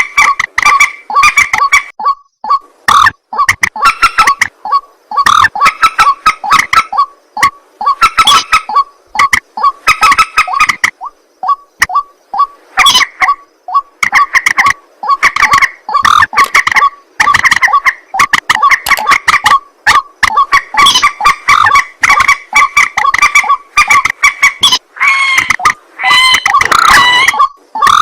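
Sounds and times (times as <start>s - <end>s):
bird croaking harshly: 0.0s - 28.0s.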